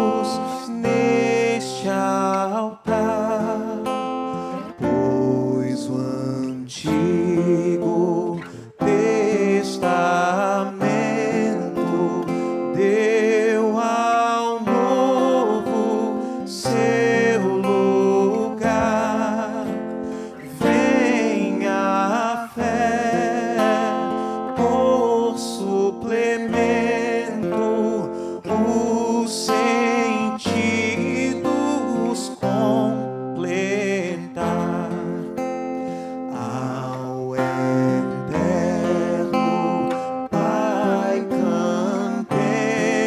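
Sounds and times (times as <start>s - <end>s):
person singing a hymn with vibrato: 0.0s - 43.0s
strummed acoustic guitar chords: 0.0s - 43.0s.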